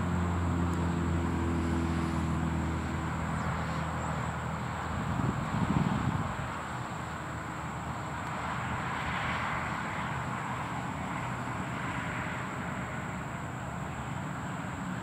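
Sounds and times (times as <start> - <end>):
distant road traffic rushing: 0.0 - 15.0.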